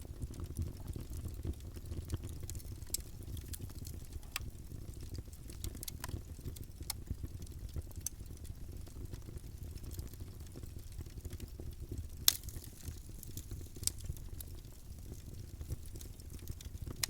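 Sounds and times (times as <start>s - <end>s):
burning wood crackling and popping: 0.0s - 17.0s
rumble of flames: 0.0s - 17.0s.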